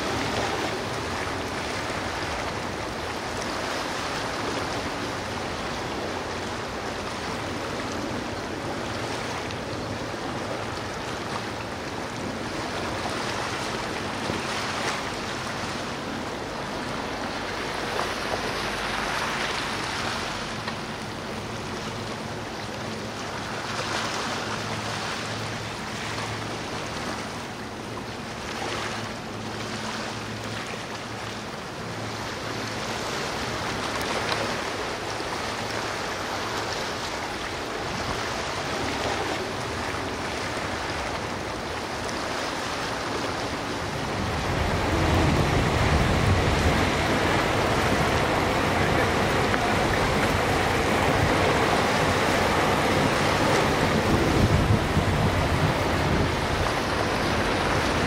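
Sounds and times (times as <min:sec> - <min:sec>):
boat engines droning: 0:00.0 - 0:58.0
choppy sea: 0:00.0 - 0:58.0
powerboat running past: 0:00.0 - 0:58.0
rushing boat wake: 0:00.0 - 0:58.0
wind: 0:00.0 - 0:58.0.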